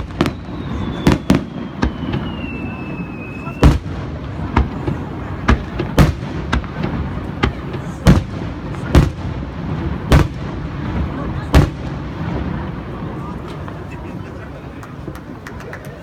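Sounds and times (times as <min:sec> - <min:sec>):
fireworks bursting with sharp bangs: 0:00.0 - 0:15.5.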